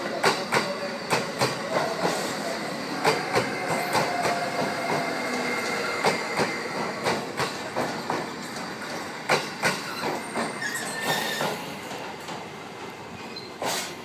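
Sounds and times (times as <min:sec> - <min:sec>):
train wheels clacking over rail joints: 0:00.0 - 0:02.4, 0:03.0 - 0:12.6, 0:13.2 - 0:14.0
train rolling noise: 0:00.0 - 0:14.0.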